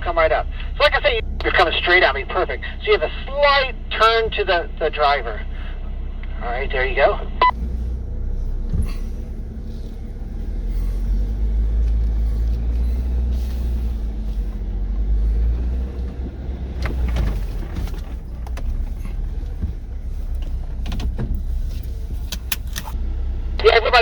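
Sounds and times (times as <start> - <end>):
engine deep rumble: 0.0 - 24.0.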